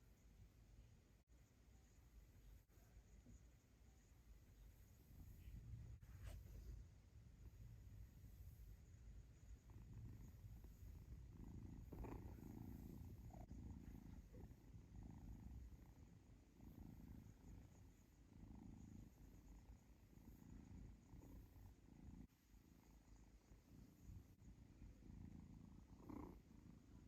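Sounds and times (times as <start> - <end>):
kitten purring: 1.8 - 27.0.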